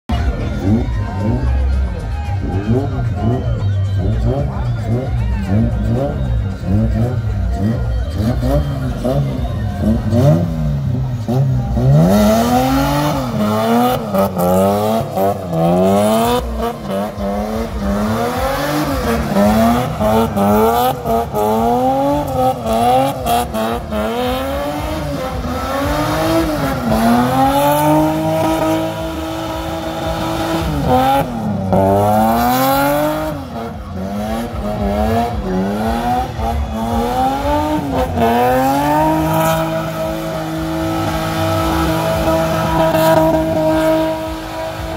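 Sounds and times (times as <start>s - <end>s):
car engine revving: 0.1s - 44.9s.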